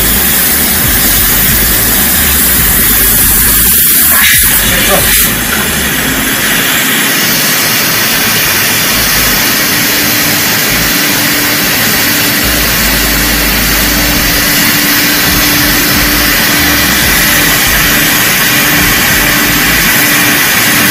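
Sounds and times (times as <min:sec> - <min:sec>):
constant machine hum: 0:00.0 - 0:20.9
loud steady rushing noise: 0:00.0 - 0:20.9.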